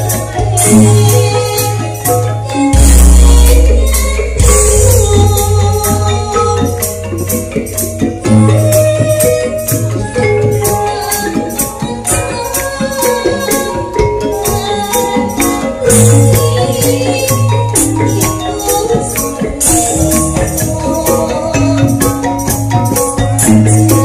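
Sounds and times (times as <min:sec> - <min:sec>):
drums: 0:00.0 - 0:24.0.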